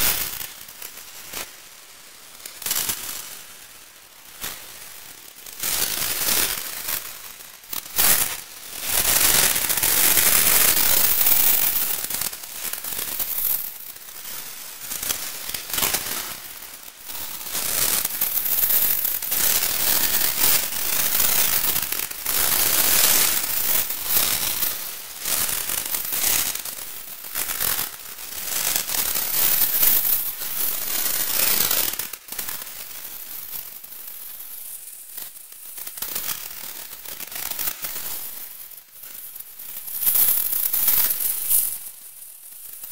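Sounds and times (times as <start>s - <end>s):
crackling hissing noise texture: 0.0s - 42.9s.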